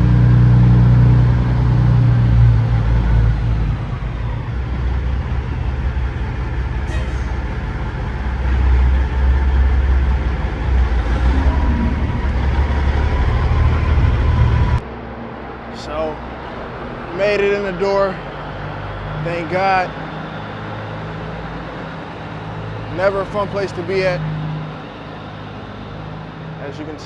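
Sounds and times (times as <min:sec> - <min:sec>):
truck diesel engine rumbling: 0:00.0 - 0:27.0.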